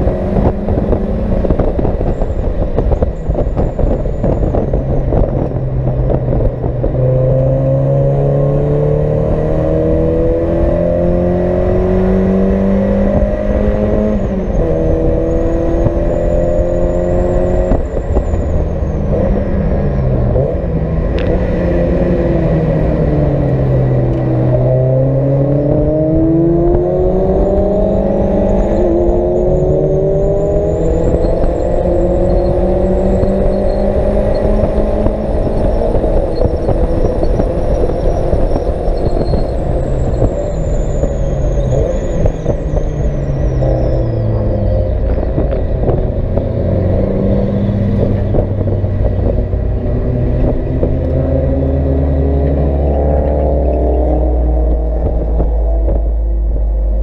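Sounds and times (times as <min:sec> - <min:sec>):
high whine: 0:00.0 - 0:57.0
race car engine revving through gears: 0:00.0 - 0:57.0.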